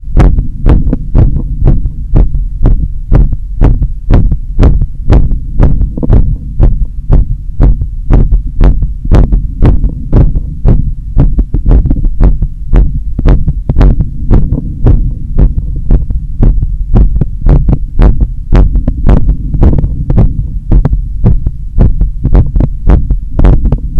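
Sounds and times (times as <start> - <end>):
constant low rumble: 0.0 - 23.9
heartbeat lub-dub thumps: 0.0 - 23.9.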